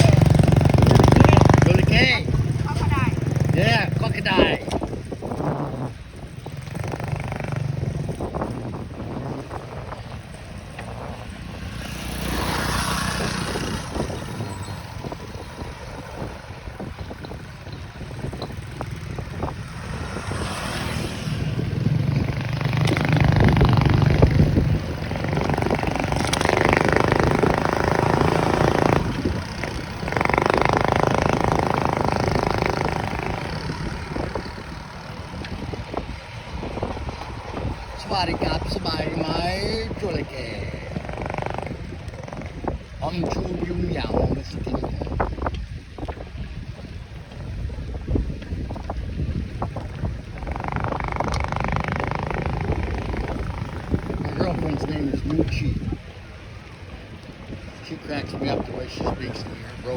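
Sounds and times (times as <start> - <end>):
vehicle and road noise: 0.0 - 59.9
wind on microphone: 0.0 - 59.9.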